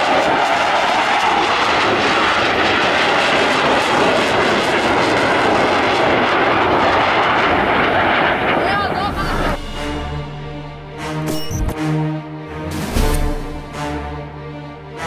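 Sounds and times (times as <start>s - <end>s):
jet aircraft engine rushing: 0.0s - 15.0s.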